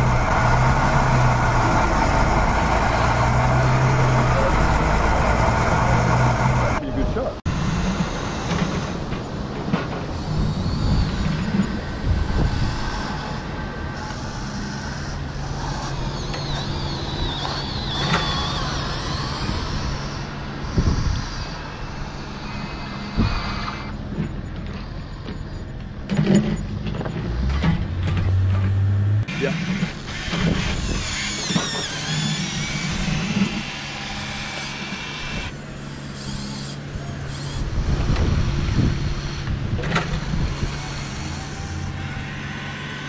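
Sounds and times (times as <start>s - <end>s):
electric motors whirring: 0.0s - 43.0s.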